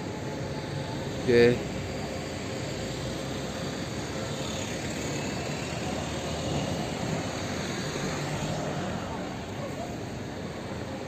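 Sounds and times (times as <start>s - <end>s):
distant road traffic hum: 0.0s - 11.0s.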